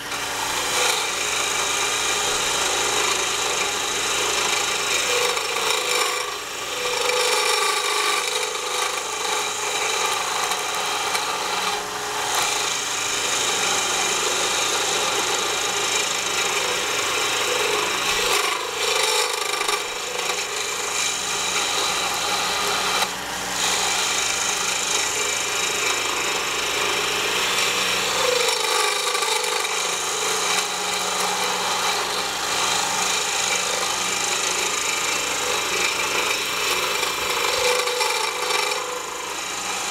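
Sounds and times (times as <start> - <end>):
chisel cutting wood on lathe: 0.0 - 39.9
lathe humming: 0.0 - 39.9.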